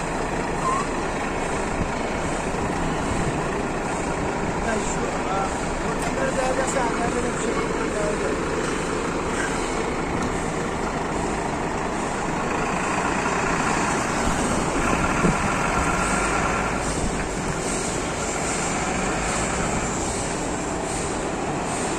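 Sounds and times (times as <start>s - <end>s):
steady mechanical noise: 0.0s - 21.9s.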